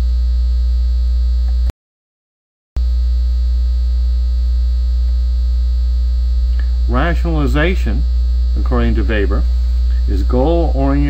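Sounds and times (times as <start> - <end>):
electrical mains hum: 0.0 - 1.7, 2.8 - 11.0.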